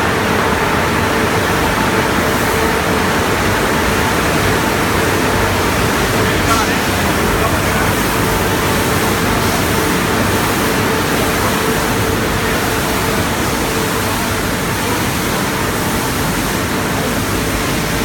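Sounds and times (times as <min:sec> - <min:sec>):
mid-pitched machinery hum: 0:00.0 - 0:18.0.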